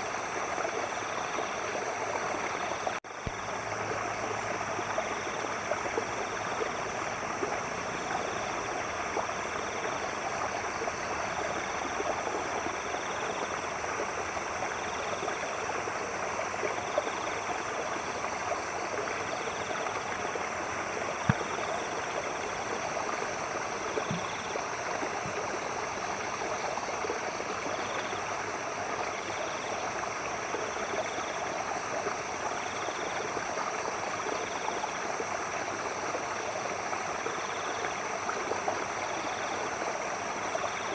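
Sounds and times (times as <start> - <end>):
stream water running and splashing: 0.0 - 40.9.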